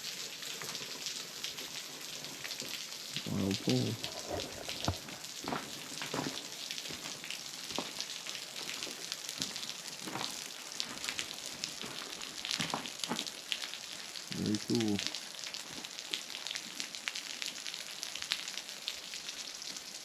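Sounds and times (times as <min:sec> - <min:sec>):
running water hiss: 0:00.0 - 0:20.0.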